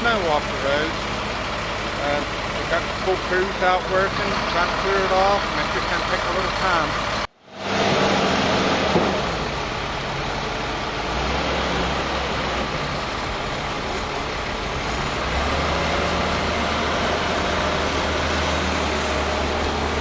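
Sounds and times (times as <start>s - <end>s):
heavy truck engine drone: 0.0s - 20.0s.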